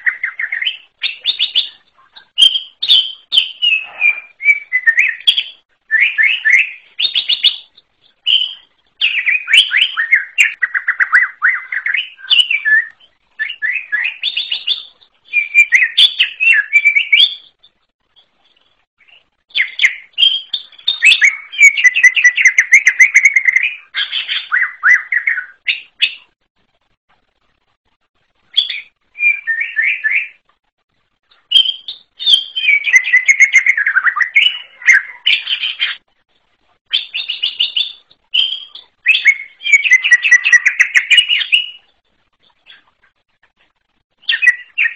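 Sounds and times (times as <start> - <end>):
bird chirping and whistling: 0.0 - 17.6, 19.5 - 26.3, 28.5 - 30.4, 31.5 - 36.0, 36.9 - 41.9, 44.2 - 44.9.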